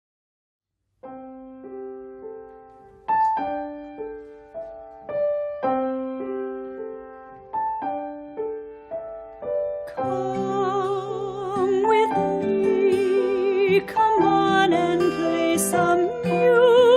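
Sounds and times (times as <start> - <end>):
solo piano melody: 1.0 - 16.9.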